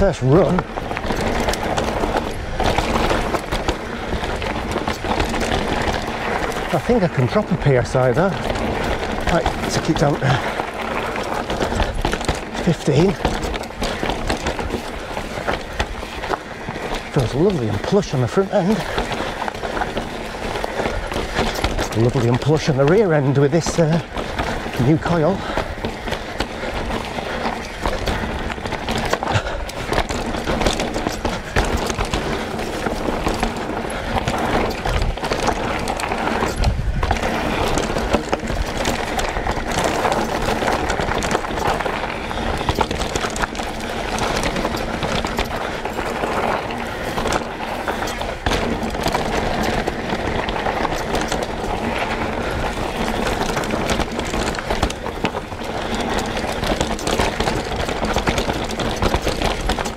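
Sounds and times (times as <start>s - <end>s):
bike knocking and rattling: 0.0s - 59.9s
bike tyres rolling on dirt trail: 0.0s - 59.9s.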